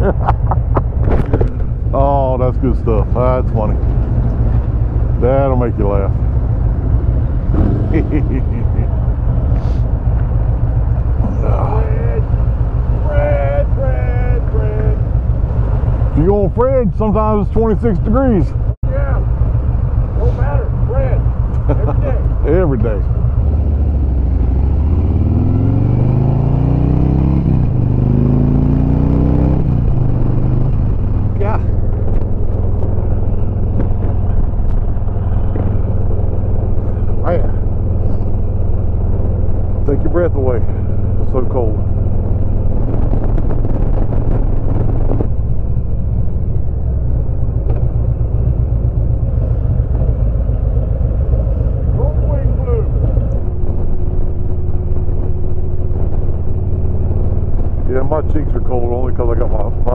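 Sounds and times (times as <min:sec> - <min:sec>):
motorcycle accelerating through gears: 0:03.2 - 0:16.4, 0:21.2 - 0:59.9.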